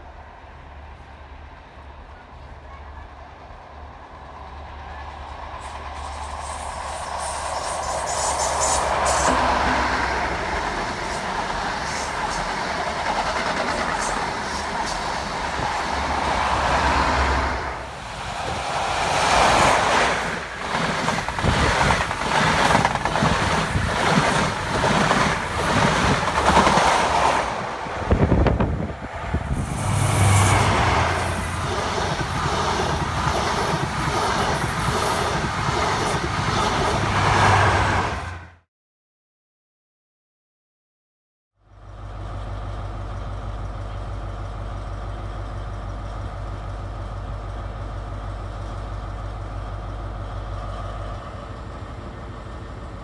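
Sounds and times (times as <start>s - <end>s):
diesel train passing at speed: 0.0s - 38.7s, 41.6s - 53.0s.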